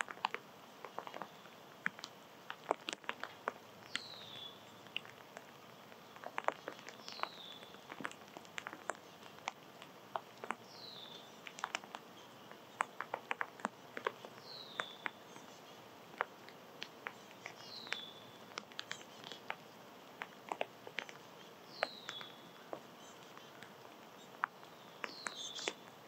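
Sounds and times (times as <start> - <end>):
small animals clicking and tapping: 0.0 - 26.0.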